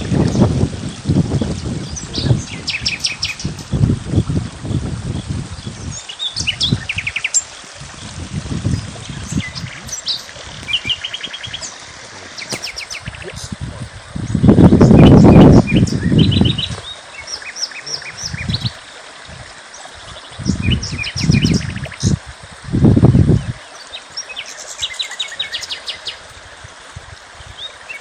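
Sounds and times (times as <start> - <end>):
songbirds chirping and trilling: 0.0 - 26.6.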